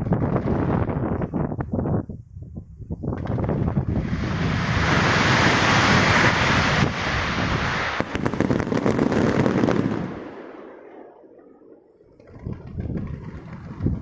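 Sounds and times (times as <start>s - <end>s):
fireworks crackling: 0.0s - 2.0s, 3.0s - 11.0s, 11.8s - 14.0s.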